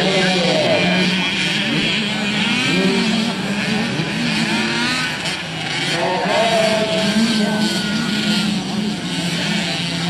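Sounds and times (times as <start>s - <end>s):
dirt bike engines racing: 0.0s - 10.0s.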